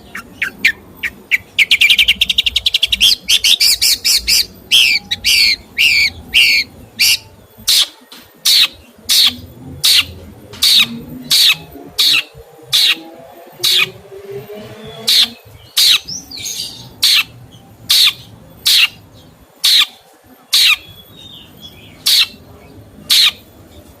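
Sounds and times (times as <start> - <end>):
songbird calling: 0.0 - 23.5.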